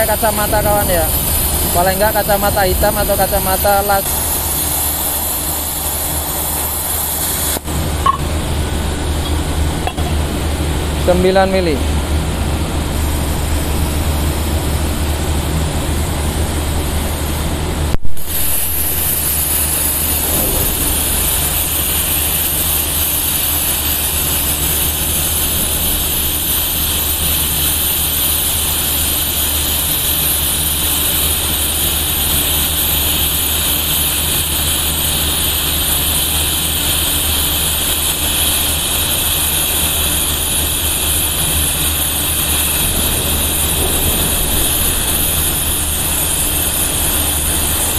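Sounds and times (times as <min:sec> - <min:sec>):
constant low hum: 0:00.0 - 0:47.9
plasma cutter arc hissing: 0:00.0 - 0:47.9.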